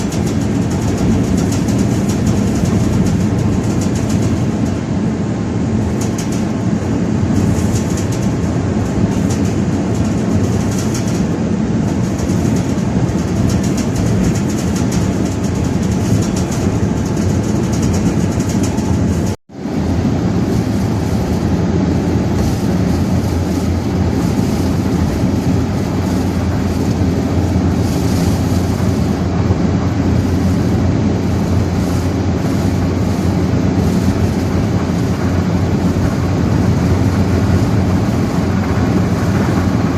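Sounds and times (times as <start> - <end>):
strong wind on microphone: 0.0 - 39.9.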